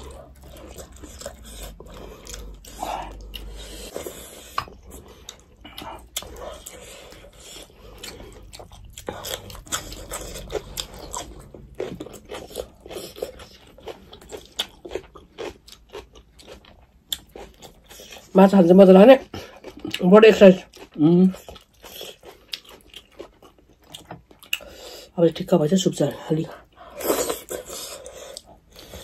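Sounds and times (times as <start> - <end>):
people chewing and lip-smacking: 0.0 - 18.3, 20.6 - 25.0, 26.5 - 29.0.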